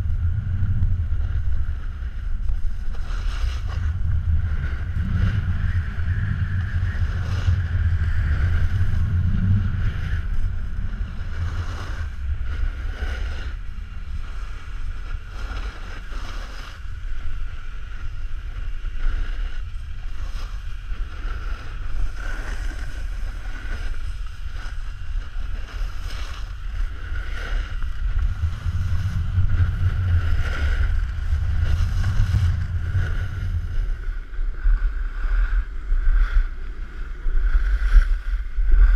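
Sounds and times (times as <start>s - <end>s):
snowboard scraping over snow: 0.0s - 38.9s
wind rumbling on microphone: 0.0s - 38.9s.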